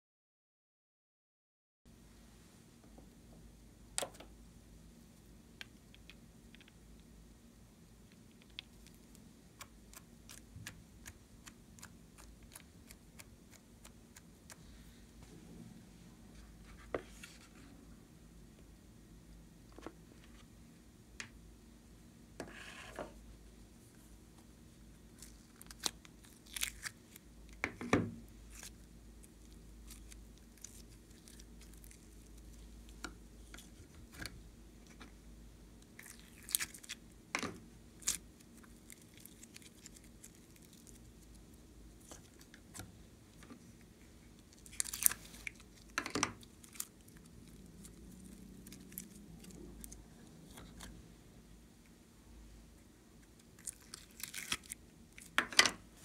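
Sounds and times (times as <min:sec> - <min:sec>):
faint steady hum: 0:01.9 - 0:56.0.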